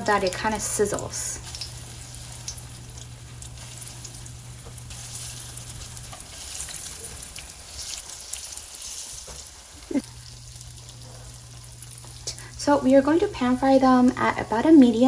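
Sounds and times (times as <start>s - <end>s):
hot oil sizzling in a wok: 0.0s - 15.0s.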